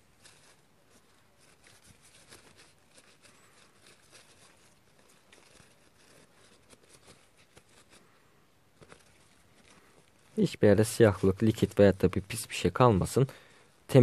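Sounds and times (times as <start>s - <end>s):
paper tissue rustling: 0.0s - 14.0s.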